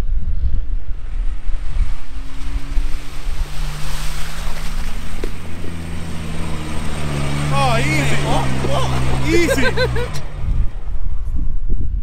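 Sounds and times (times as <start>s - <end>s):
wind buffeting microphone: 0.0s - 12.0s
vehicle engine under load: 0.7s - 12.0s.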